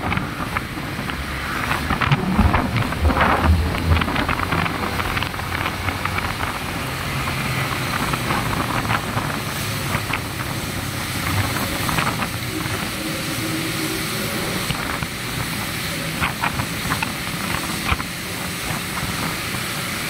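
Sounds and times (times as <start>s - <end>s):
motorcycle engine drone: 0.0s - 20.0s
tyres hissing on wet road: 0.0s - 20.0s
wind rushing on microphone: 0.0s - 20.0s.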